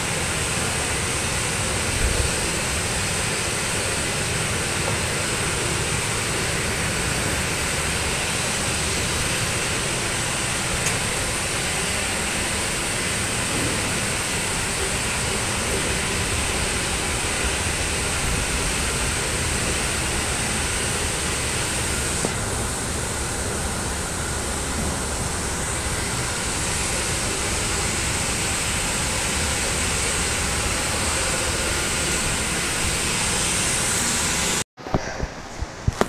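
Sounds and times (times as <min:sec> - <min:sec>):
escalator running hum: 0:00.0 - 0:34.6.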